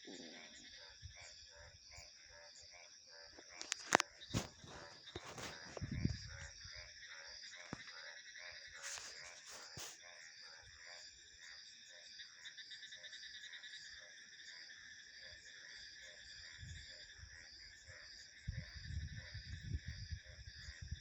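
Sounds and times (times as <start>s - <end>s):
crickets trilling: 0.0s - 21.0s
frogs croaking: 0.0s - 21.0s.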